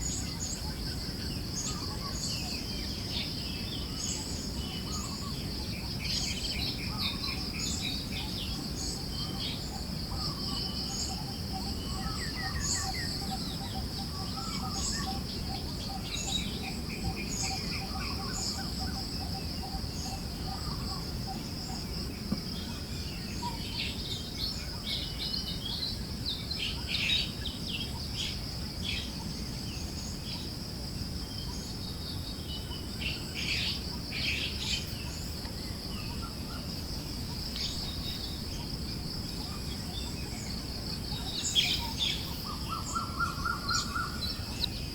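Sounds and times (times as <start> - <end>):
high insect trill: 0.0 - 44.9
low rush of wind: 0.0 - 44.9
songbirds chirping: 0.0 - 44.9.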